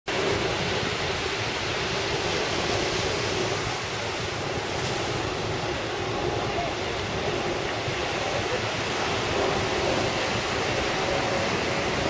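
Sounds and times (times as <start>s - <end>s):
distant jet engine rush: 0.1s - 12.0s
surf: 0.1s - 12.0s
wind on microphone: 0.1s - 12.0s.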